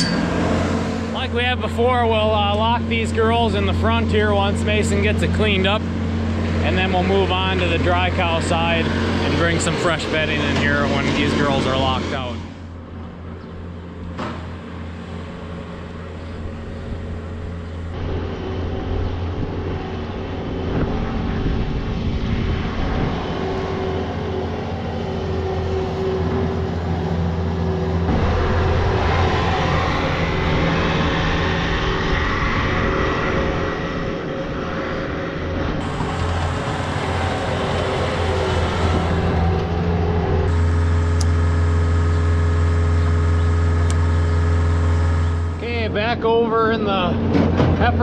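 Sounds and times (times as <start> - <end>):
skid steer engine running: 0.0 - 48.0.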